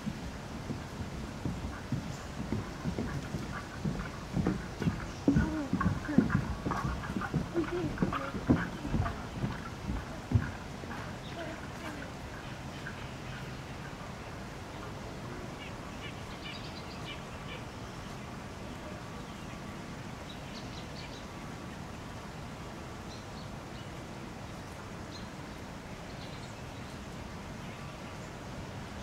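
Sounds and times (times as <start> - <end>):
small birds chirping: 0.0 - 22.2, 23.0 - 28.6
low background noise: 0.0 - 29.0.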